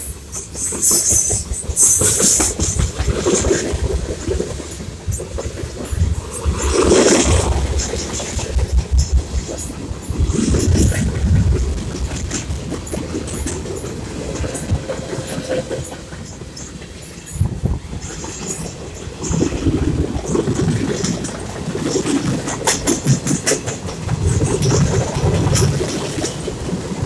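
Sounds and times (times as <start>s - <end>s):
train rumble: 0.0s - 27.0s
train wheels clacking on rails: 0.0s - 27.0s.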